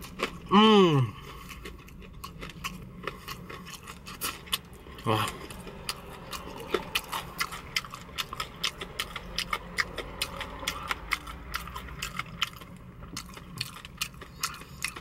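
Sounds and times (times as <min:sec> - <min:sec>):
crunchy chewing of fried chicken: 0:00.0 - 0:15.0.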